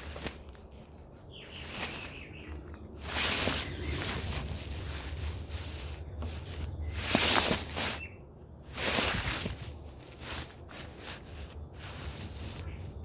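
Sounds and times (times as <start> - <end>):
fur rustling on microphone: 0.0 - 13.0
low steady hum: 0.0 - 13.0.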